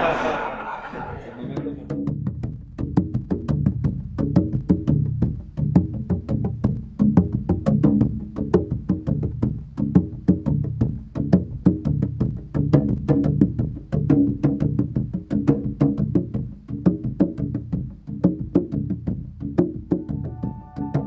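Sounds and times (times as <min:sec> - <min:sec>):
music with quick notes over bass: 0:01.8 - 0:21.0.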